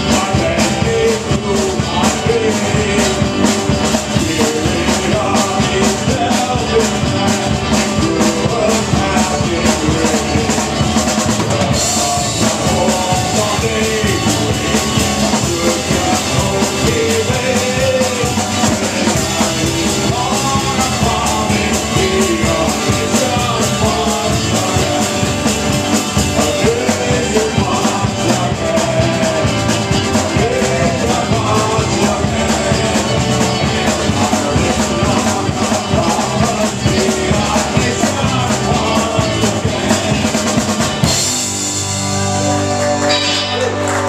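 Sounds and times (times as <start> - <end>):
drums driving beat: 0.0 - 44.0
live band playing up-tempo song: 0.0 - 44.0.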